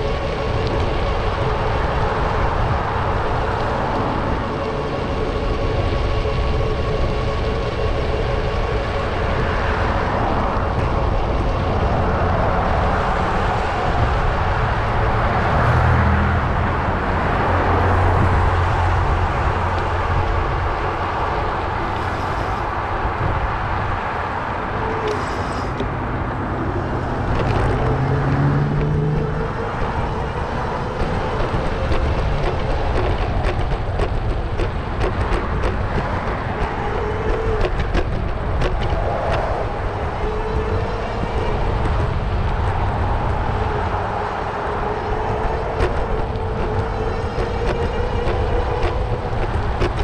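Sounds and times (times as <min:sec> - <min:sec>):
street traffic road noise: 0:00.0 - 0:50.0
vehicle engine climbing in pitch: 0:00.0 - 0:50.0
wind rumbling on microphone: 0:00.0 - 0:50.0.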